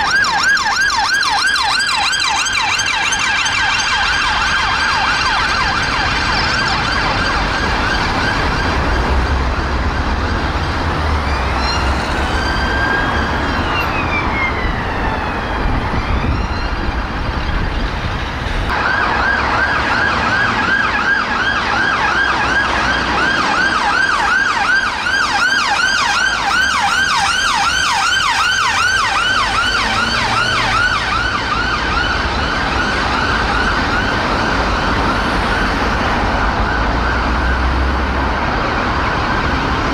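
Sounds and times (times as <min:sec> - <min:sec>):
yelp siren: 0:00.0 - 0:17.9, 0:18.7 - 0:39.9
road traffic: 0:00.0 - 0:39.9
wailing siren: 0:00.0 - 0:39.9
warbling siren: 0:00.0 - 0:39.9.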